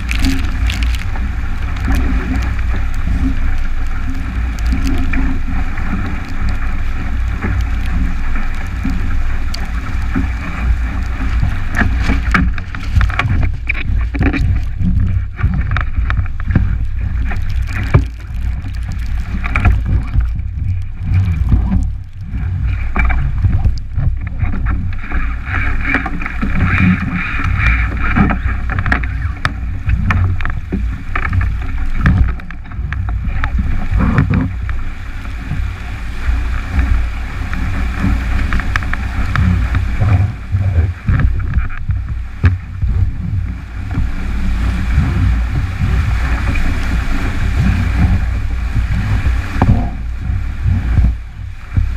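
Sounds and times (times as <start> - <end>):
hull slapping waves: 0.0 - 51.9
water rushing along hull: 0.0 - 51.9
wind buffeting microphone: 0.0 - 51.9.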